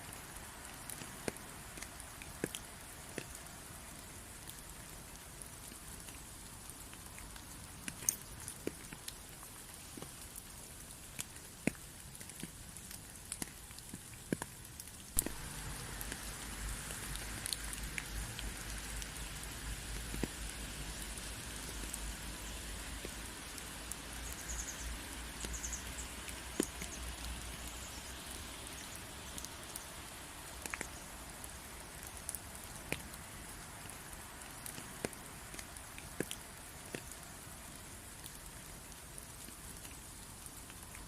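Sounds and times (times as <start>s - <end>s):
rain pattering on a surface: 0.0s - 41.0s.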